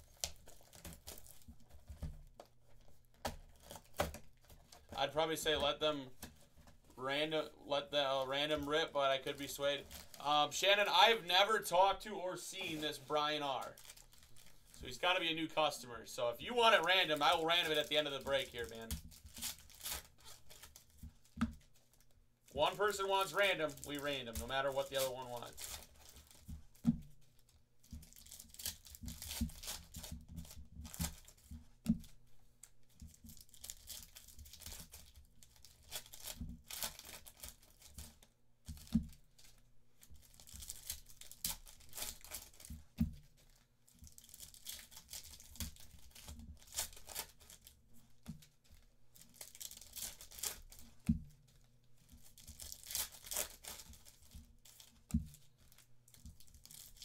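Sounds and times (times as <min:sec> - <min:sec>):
foil wrappers tearing and crinkling: 0:00.0 - 0:06.4, 0:07.4 - 0:15.7, 0:16.4 - 0:32.1, 0:33.0 - 0:57.0.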